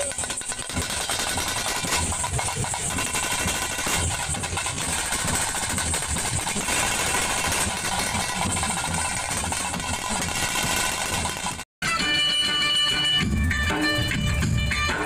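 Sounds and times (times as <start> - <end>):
barrel drums beaten fast: 0.0 - 14.8.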